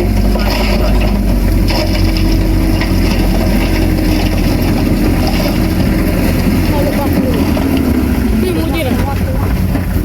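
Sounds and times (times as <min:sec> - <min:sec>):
bulldozer diesel engine running: 0:00.0 - 0:10.0
tracks clanking and scraping rock: 0:00.0 - 0:10.0.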